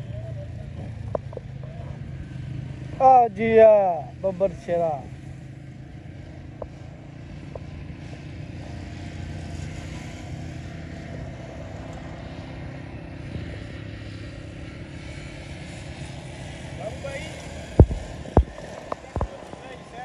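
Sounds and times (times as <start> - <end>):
distant engine droning: 0.0 - 20.0.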